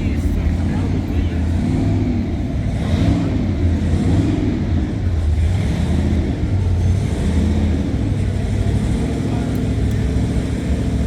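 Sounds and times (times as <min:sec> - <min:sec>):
car engines running at low revs: 0:00.0 - 0:11.0.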